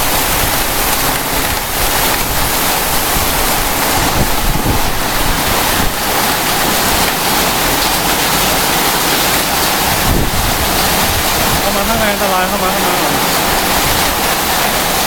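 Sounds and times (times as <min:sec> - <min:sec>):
heavy rain: 0:00.0 - 0:15.0
wind gusting on microphone: 0:00.0 - 0:15.0.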